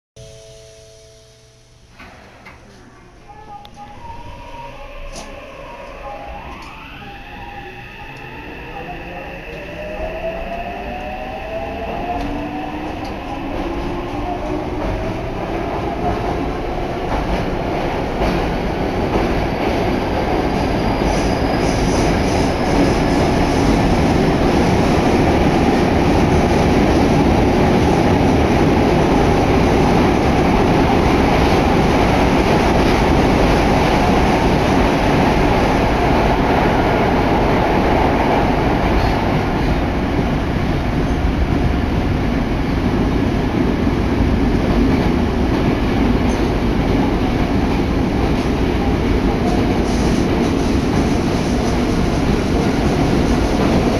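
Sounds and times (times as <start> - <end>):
train wheels roaring on rails: 3.8 - 53.9.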